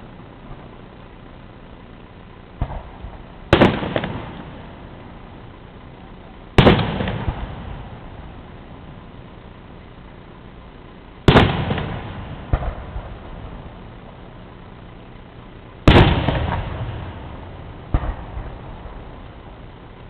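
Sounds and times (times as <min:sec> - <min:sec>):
firework shells bursting: 0:01.9 - 0:10.2, 0:10.8 - 0:20.0.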